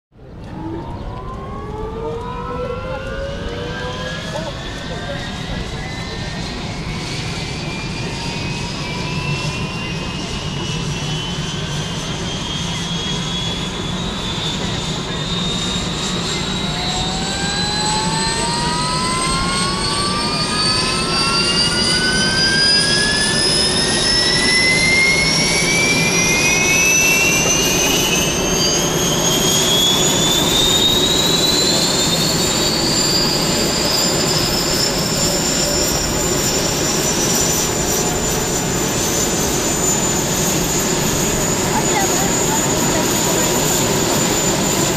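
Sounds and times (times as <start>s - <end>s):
helicopter engine whine rising: 0.2s - 44.9s
helicopter rotor rumble: 0.2s - 44.9s.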